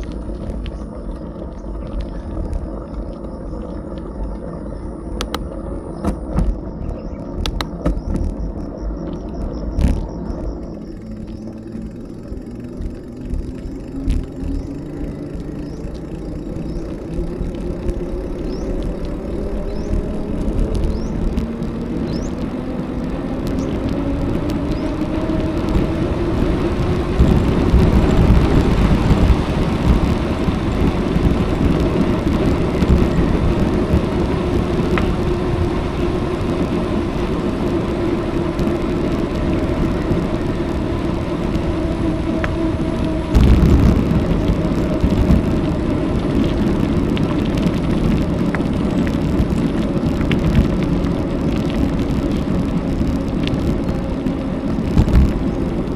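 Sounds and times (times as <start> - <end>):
steady hum: 0.0 - 55.9
wind rumbling on microphone: 0.0 - 55.9.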